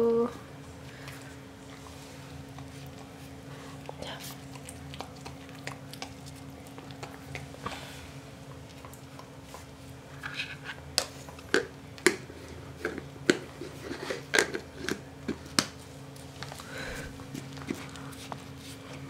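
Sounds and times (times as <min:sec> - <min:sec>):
dog crunching dry kibble: 0:01.0 - 0:07.8, 0:08.4 - 0:19.0.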